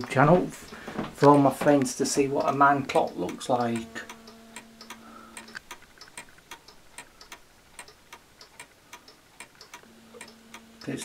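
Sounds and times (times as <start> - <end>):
wall clock ticking: 0.0 - 11.0.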